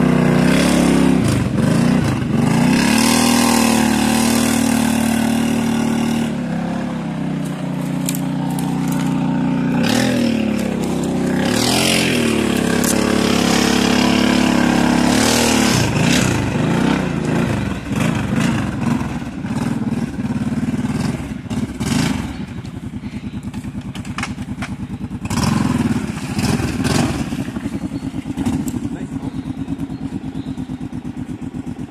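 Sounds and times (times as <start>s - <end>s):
quad bike engine revving: 0.0s - 31.9s.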